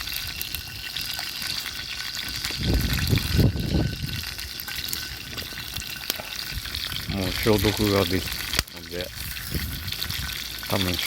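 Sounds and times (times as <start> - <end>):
chicken sizzling over campfire: 0.0 - 11.0.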